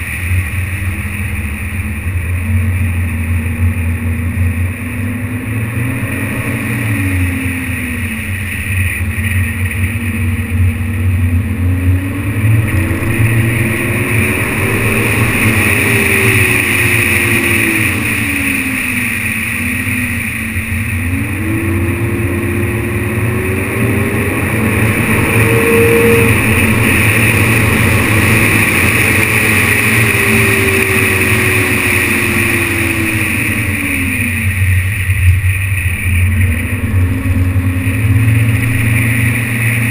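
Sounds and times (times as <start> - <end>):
diesel car engine accelerating: 0.0 - 39.9.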